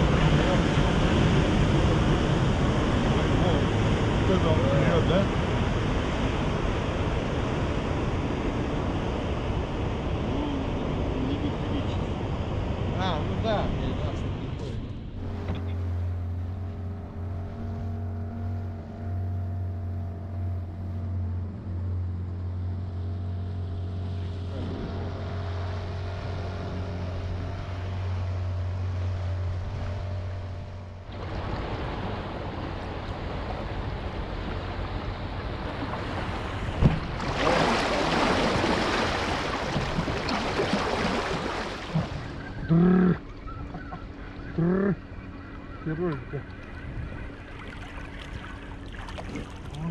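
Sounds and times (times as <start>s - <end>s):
outboard motor humming: 0.0s - 49.9s
rushing water and wind: 0.0s - 49.9s.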